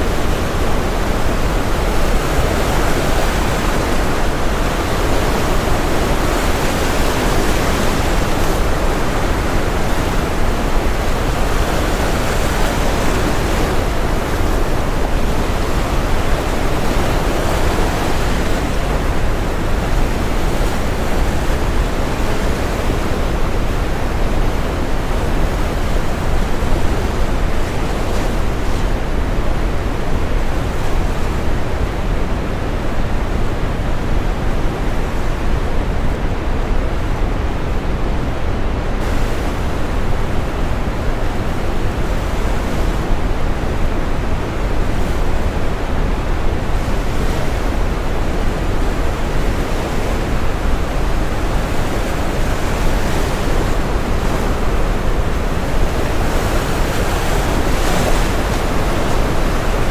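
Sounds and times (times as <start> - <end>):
ocean surf: 0.0 - 59.9.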